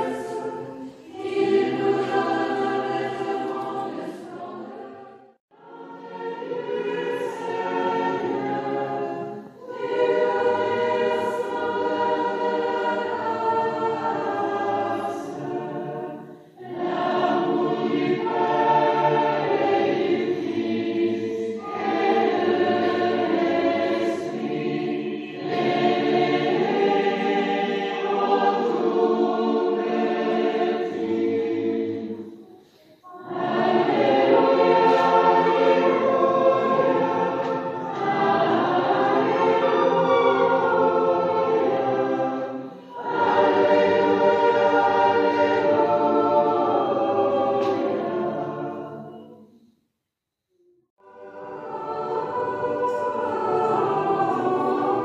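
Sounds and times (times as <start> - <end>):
choir singing a hymn: 0.0 - 49.7, 51.0 - 55.0.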